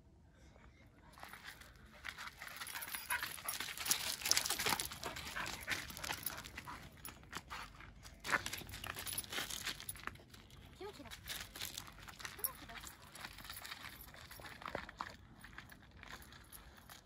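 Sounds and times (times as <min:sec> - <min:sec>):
dog paws scrabbling on gravel: 0:01.2 - 0:17.0
footsteps on gravel: 0:01.2 - 0:17.0.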